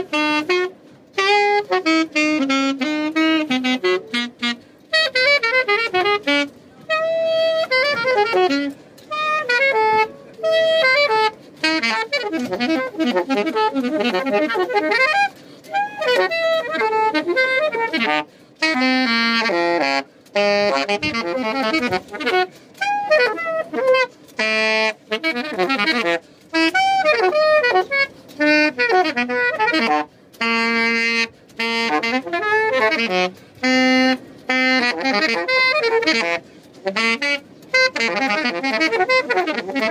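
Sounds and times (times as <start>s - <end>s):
saxophone solo: 0.0s - 39.9s.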